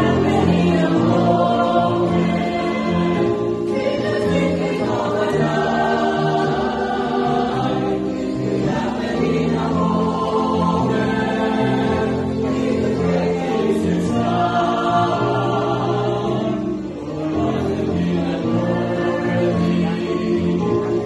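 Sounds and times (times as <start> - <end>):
mixed choir singing gospel: 0.0 - 21.0.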